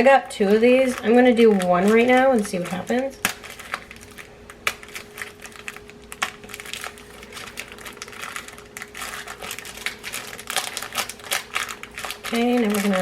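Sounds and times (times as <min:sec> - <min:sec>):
plastic wrapper crinkling: 0:00.0 - 0:13.0
chocolate bar breaking: 0:00.6 - 0:13.0.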